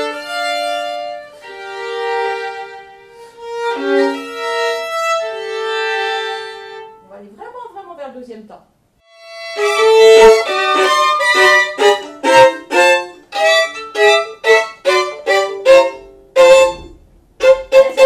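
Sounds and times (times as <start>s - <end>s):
solo violin bowed notes: 0.0s - 7.0s, 9.0s - 18.0s.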